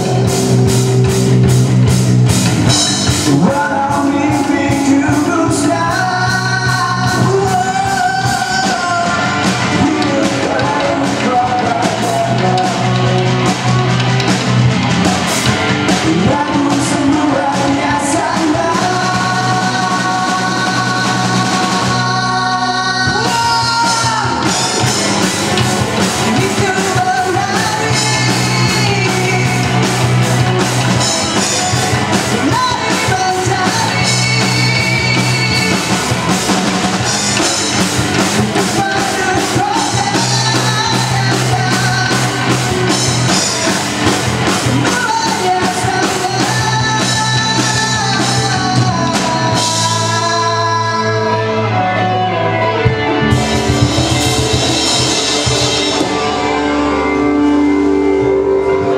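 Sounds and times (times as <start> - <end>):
distorted electric guitars: 0.0 - 58.9
drum kit: 0.0 - 58.9
person singing: 2.6 - 58.9.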